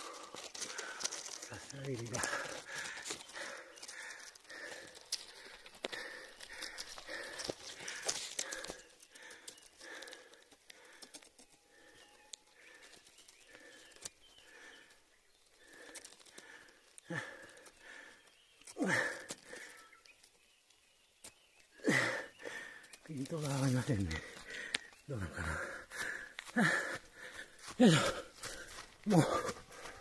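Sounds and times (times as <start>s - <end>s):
footsteps on trail: 0.0s - 30.0s.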